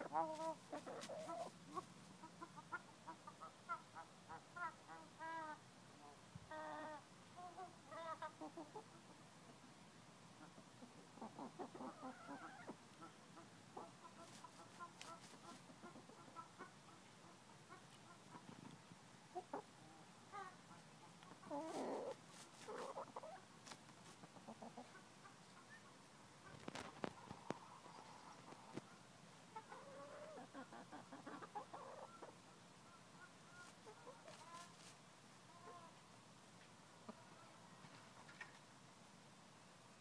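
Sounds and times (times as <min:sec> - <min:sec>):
hens clucking: 0:00.0 - 0:09.2, 0:10.4 - 0:35.0.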